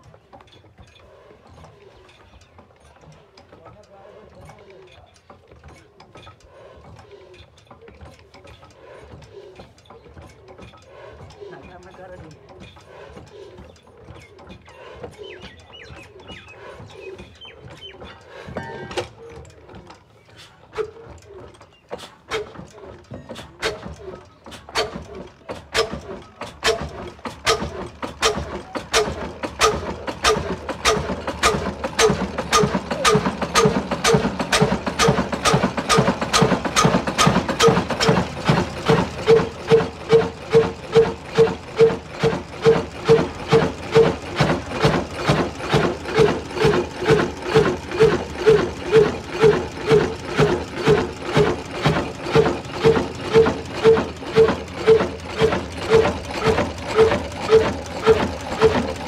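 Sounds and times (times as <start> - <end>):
diesel engine knocking beat: 7.8 - 59.0.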